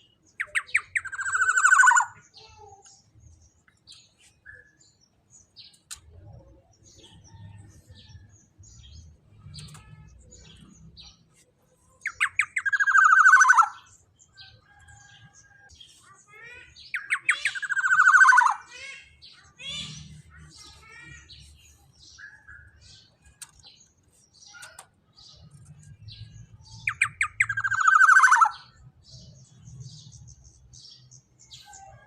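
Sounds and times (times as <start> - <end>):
faint bird chirps: 0.0 - 32.0.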